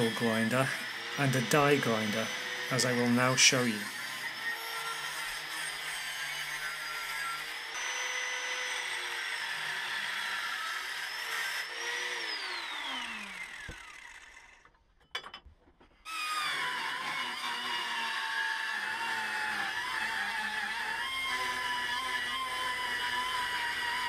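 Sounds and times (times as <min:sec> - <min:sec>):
angle grinder cutting steel: 0:00.0 - 0:14.7, 0:16.1 - 0:24.0
die grinder high whine: 0:00.0 - 0:14.7, 0:16.0 - 0:24.0.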